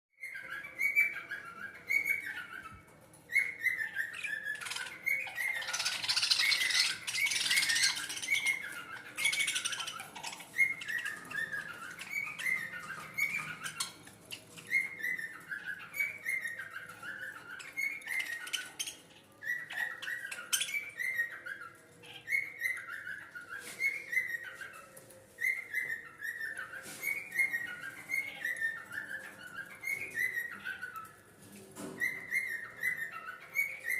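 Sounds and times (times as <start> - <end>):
budgerigars chirping: 0.2 - 33.9.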